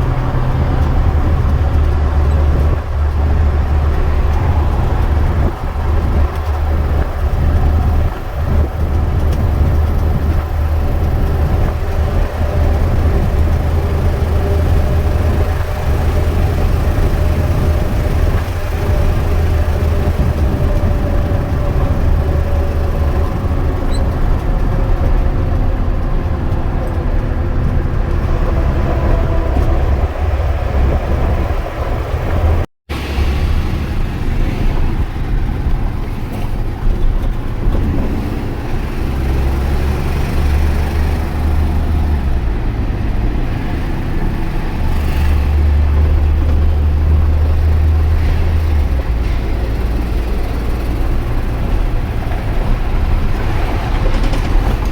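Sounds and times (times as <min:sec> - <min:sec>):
diesel truck engine running: 0:00.0 - 0:54.9
road noise: 0:00.0 - 0:54.9.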